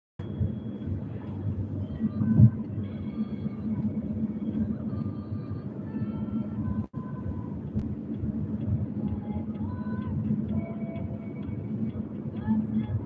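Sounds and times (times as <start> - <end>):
music playing: 0.2 - 13.0
vehicle road rumble: 0.2 - 13.0.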